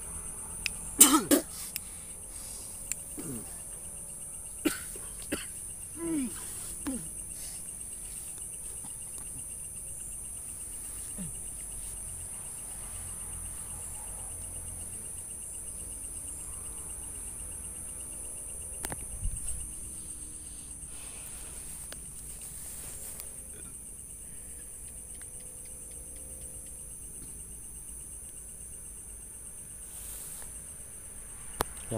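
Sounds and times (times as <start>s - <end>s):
crickets trilling: 0.0s - 31.9s.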